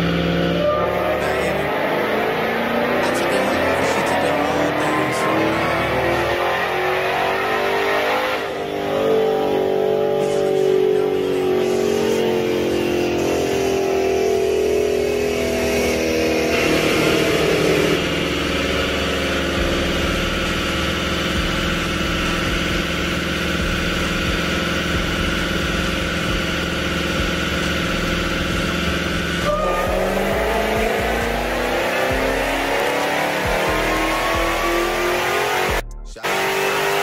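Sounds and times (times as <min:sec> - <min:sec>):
supercharged engine revving: 0:00.0 - 0:37.0.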